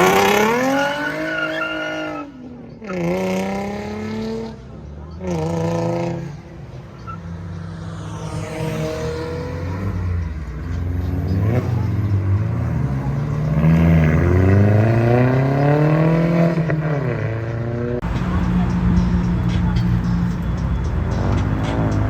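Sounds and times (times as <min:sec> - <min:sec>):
car engine accelerating: 0:02.8 - 0:22.0.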